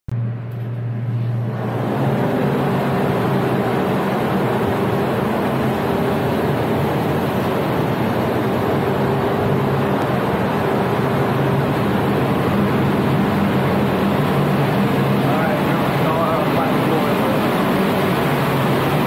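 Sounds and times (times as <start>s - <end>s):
engine-room machinery drone: 0.1s - 19.0s.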